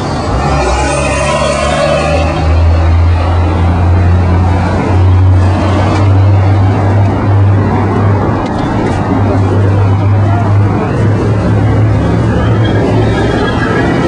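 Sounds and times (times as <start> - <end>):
elevated train rumbling on tracks: 0.0 - 14.0.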